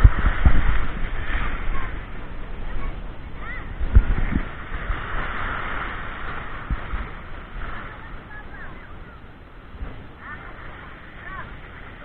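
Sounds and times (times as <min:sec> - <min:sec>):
low thumps: 0:00.0 - 0:10.3
small waves washing on beach: 0:00.0 - 0:12.0.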